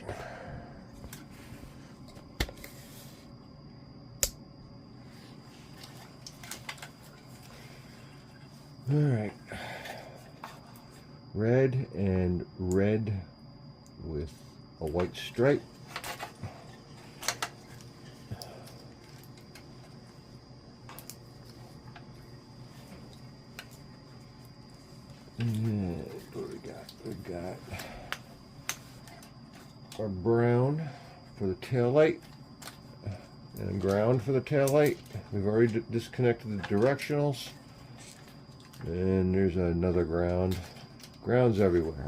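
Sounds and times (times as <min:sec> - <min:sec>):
low background hum: 0:00.0 - 0:42.0.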